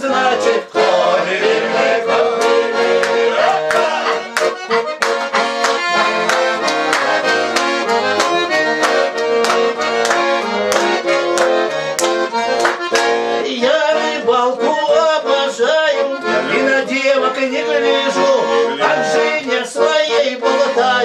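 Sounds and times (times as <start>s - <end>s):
accordion playing folk song: 0.0s - 21.0s
regular beat: 0.0s - 21.0s.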